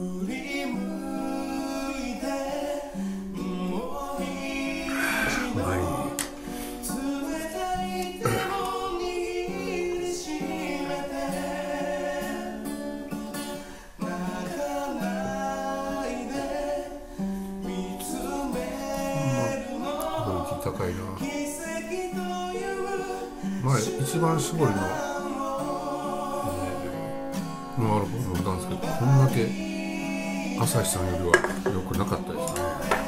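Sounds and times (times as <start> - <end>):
man singing slow melody: 0.0 - 33.0.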